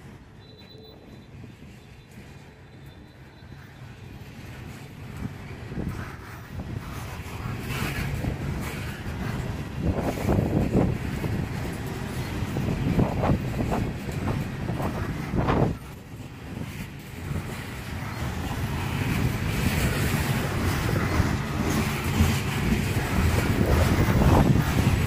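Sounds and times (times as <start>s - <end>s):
freight train wheels clacking: 0.0s - 25.0s
train rolling rumble and hiss: 0.0s - 25.0s.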